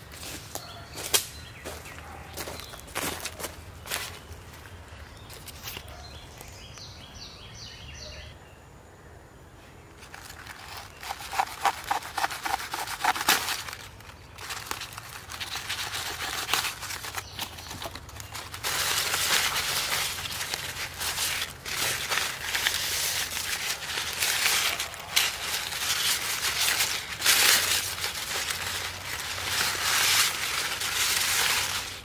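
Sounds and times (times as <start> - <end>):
leaves crinkling and rustling: 0.0 - 6.9, 9.9 - 32.0.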